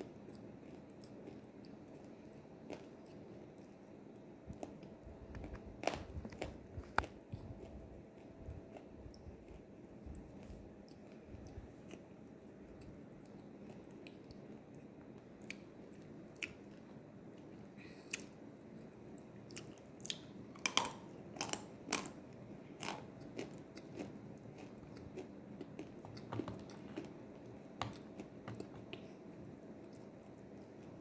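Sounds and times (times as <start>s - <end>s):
crunchy clay being chewed: 0.0s - 22.2s, 22.8s - 31.0s.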